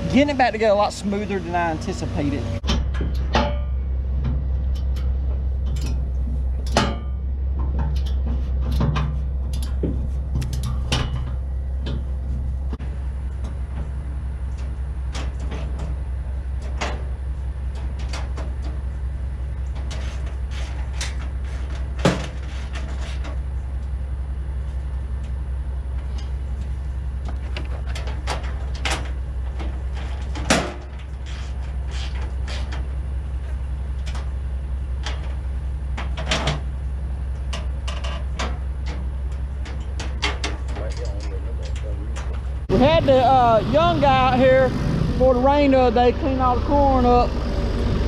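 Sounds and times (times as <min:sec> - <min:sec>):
low engine drone: 0:00.0 - 0:48.0.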